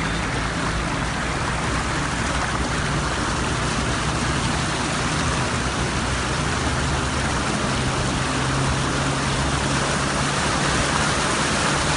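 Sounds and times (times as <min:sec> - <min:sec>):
low engine hum: 0:00.0 - 0:11.9
water rushing and splashing: 0:00.0 - 0:11.9.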